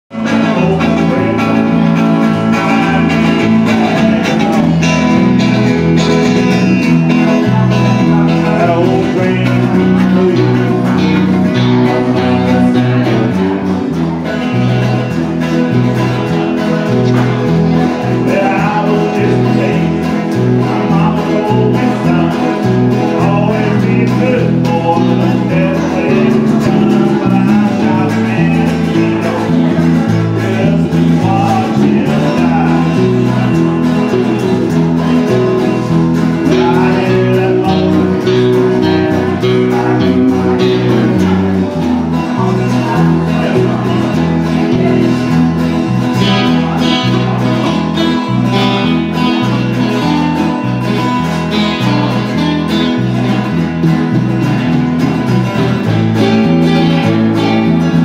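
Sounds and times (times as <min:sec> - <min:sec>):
acoustic guitars playing country tune: 0:00.1 - 0:58.0.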